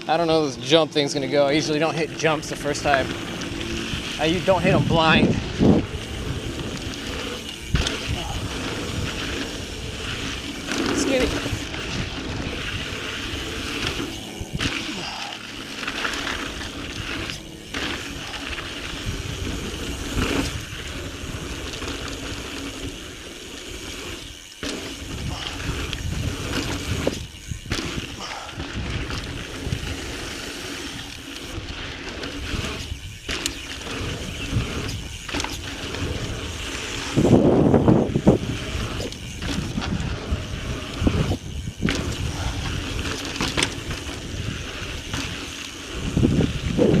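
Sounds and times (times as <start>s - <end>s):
bike tyres on dirt trail: 0.0s - 47.0s.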